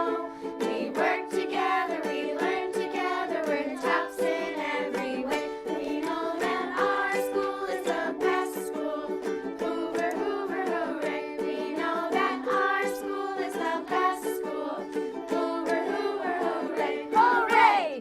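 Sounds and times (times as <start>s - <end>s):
strummed stringed instrument: 0.0s - 17.8s
voices singing: 0.0s - 18.0s.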